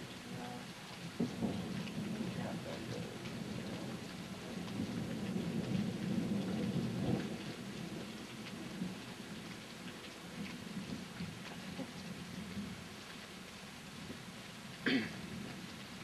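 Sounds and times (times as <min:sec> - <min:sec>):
low roll of thunder: 0:00.0 - 0:13.0
rain falling: 0:00.0 - 0:16.0.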